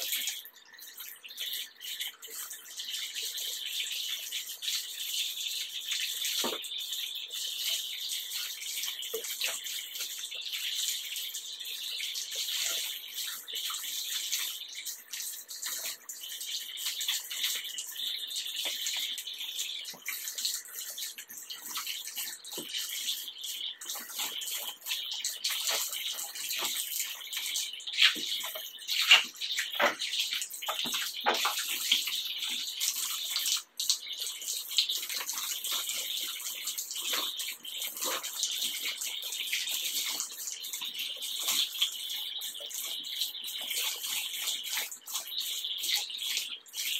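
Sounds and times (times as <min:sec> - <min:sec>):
bath tap running: 0:00.0 - 0:46.9.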